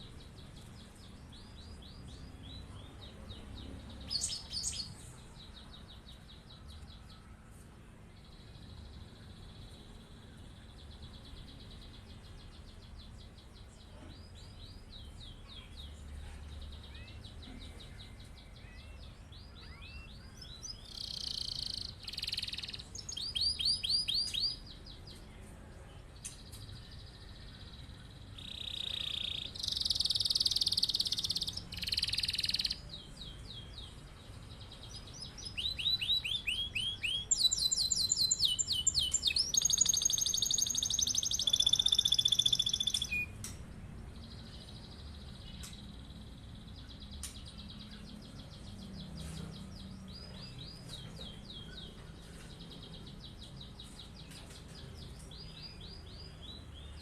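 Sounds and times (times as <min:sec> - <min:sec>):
canary singing trills: 0:00.0 - 0:07.2, 0:08.2 - 0:25.2, 0:26.3 - 0:57.0.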